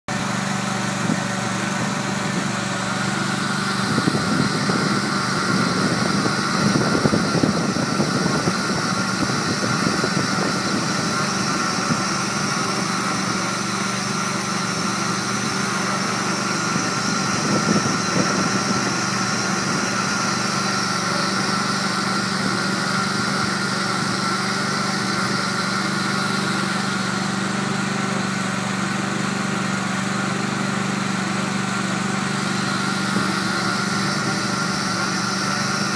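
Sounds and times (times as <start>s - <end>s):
small engine running: 0.0s - 35.9s.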